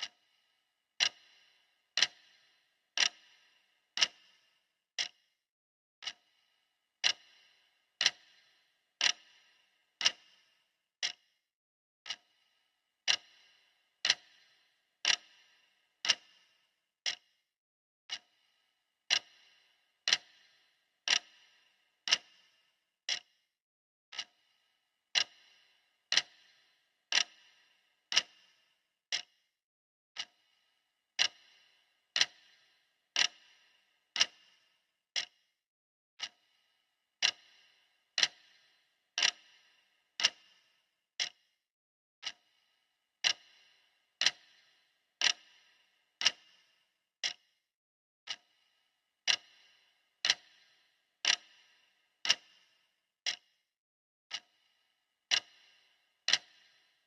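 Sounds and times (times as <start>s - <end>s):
clock ticking: 0.0s - 0.4s, 1.0s - 5.3s, 6.0s - 11.3s, 12.0s - 17.3s, 18.1s - 18.5s, 19.1s - 23.4s, 24.1s - 29.4s, 30.2s - 30.6s, 31.2s - 35.4s, 36.2s - 41.5s, 42.2s - 42.6s, 43.2s - 47.5s, 48.2s - 53.6s, 54.3s - 57.0s.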